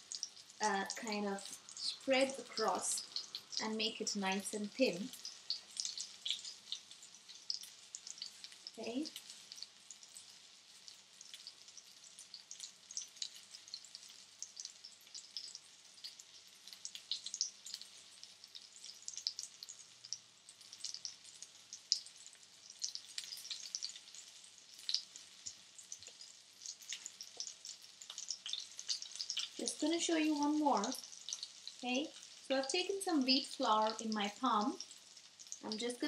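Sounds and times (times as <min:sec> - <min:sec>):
cutlets sizzling in oil: 0:00.0 - 0:36.0.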